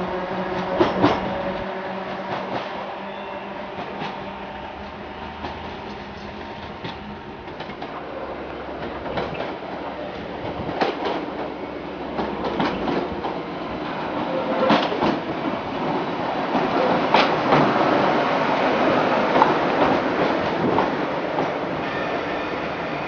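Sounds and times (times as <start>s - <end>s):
electric train arriving: 0.0s - 23.0s.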